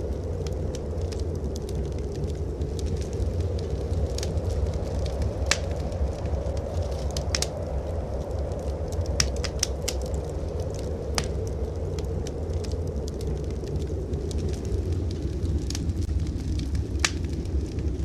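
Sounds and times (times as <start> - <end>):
blizzard wind rumble: 0.0 - 18.0
wood fire crackling: 0.0 - 18.0.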